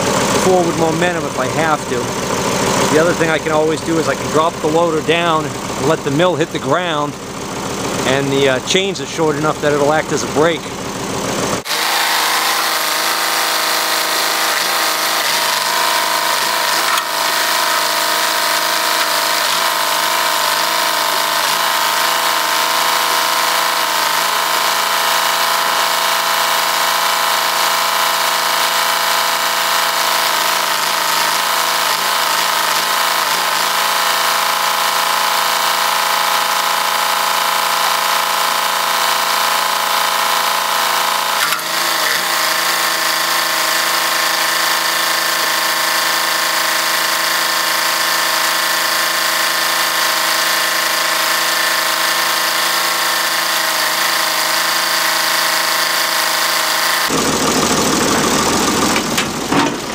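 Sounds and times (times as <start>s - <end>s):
tractor engine running steadily: 0.0s - 59.9s.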